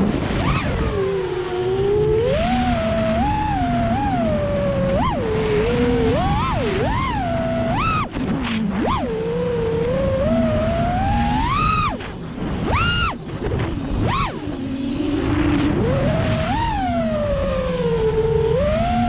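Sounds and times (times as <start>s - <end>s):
low rumbling noise: 0.0s - 19.0s
quadcopter motors whining: 0.0s - 19.0s.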